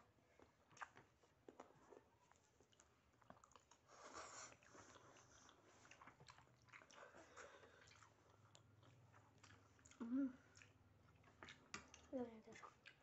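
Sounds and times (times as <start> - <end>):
chewing with mouth clicks: 0.3 - 13.0.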